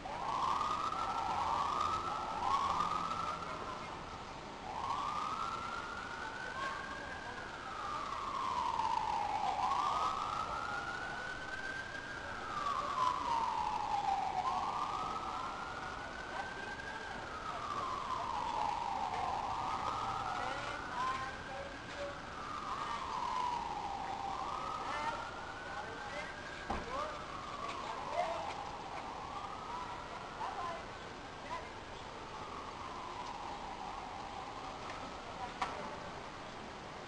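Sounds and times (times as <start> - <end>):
emergency vehicle siren: 0.0 - 37.0.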